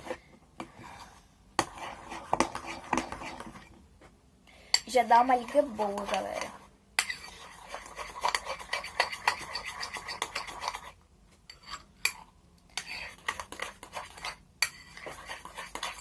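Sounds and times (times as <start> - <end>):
utensil scraping a pot: 0.0 - 3.7, 4.7 - 16.0.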